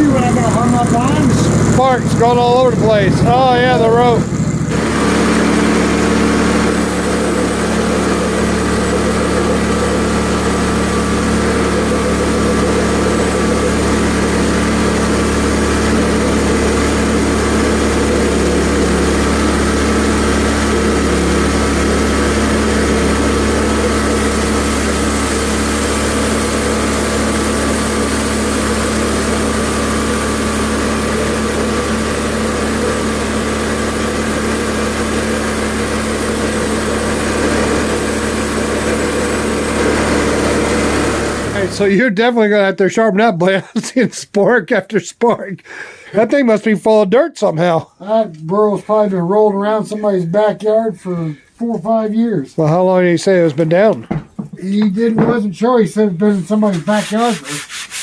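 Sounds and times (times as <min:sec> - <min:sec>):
bandsaw mill cutting wood: 0:00.0 - 0:42.6, 0:52.6 - 0:58.0.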